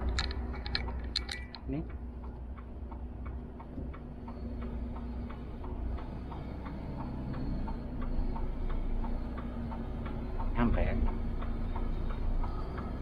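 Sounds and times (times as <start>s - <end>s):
diesel engine humming: 0.0s - 13.0s
turn signal ticking: 0.0s - 13.0s.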